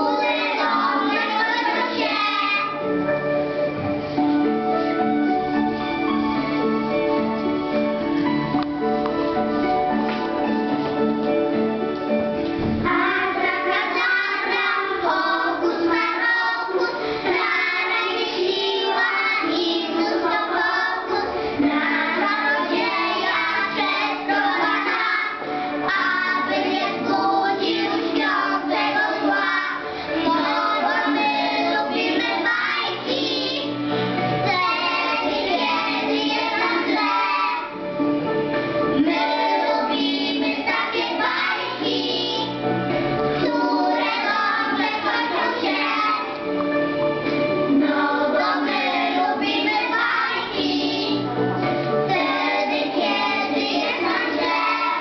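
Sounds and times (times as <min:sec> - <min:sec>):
children singing in unison: 0:00.0 - 0:02.9, 0:12.6 - 0:37.9, 0:38.9 - 0:55.0
instrumental accompaniment: 0:00.0 - 0:55.0.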